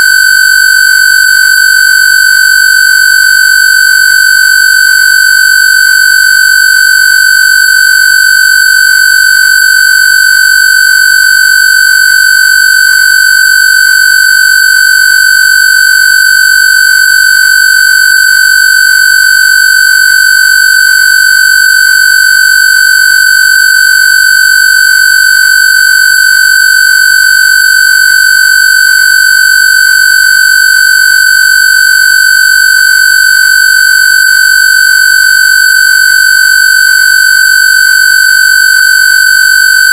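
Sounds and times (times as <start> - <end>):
shrill electronic square-wave tone: 0.0 - 39.9.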